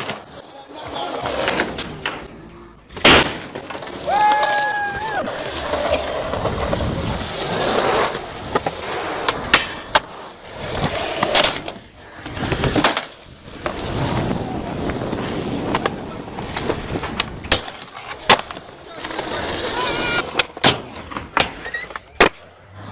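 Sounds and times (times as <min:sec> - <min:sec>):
skateboard wheels rolling on concrete: 0:00.0 - 0:02.2, 0:03.0 - 0:22.9
skateboard clacking on ground: 0:00.0 - 0:22.5.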